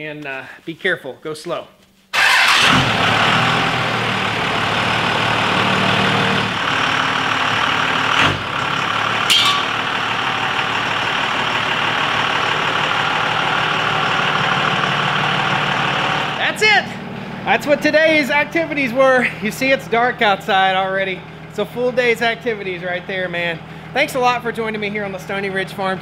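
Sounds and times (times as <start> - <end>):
diesel engine running: 2.2 - 26.0.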